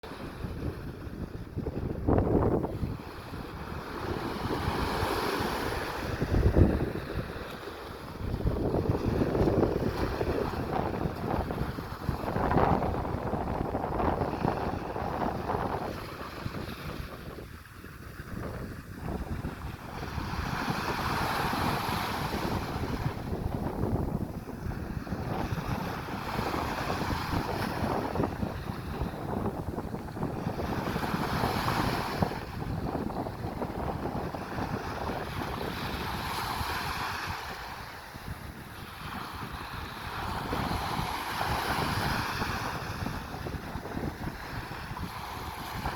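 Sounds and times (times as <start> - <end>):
sea waves breaking on shore: 0.0 - 45.9
wind buffeting microphone: 0.0 - 45.9.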